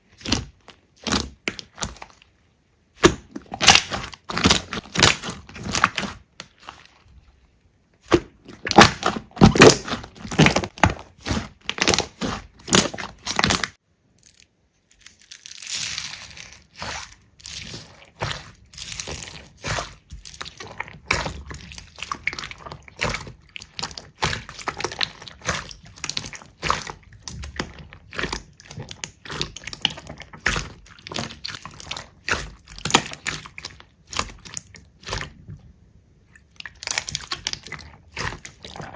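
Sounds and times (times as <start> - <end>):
slime crackling and popping: 3.0 - 6.9, 8.0 - 13.8, 15.0 - 35.4, 36.4 - 38.9.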